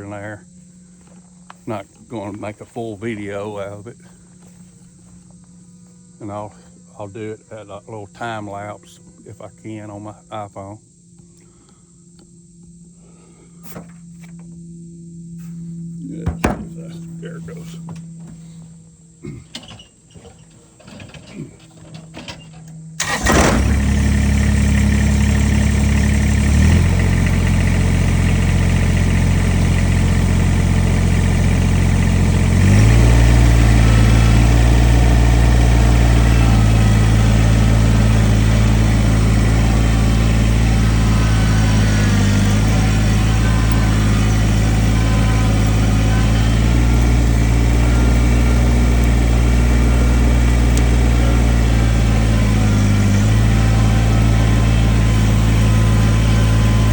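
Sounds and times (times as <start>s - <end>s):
diesel tractor engine running: 0.0s - 10.5s, 15.4s - 56.9s.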